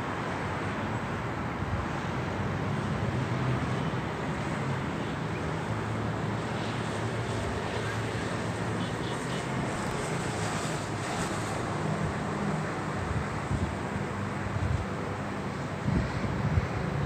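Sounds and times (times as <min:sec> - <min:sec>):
low traffic rumble: 0:00.0 - 0:17.0
car tyres and engines passing: 0:02.1 - 0:17.0.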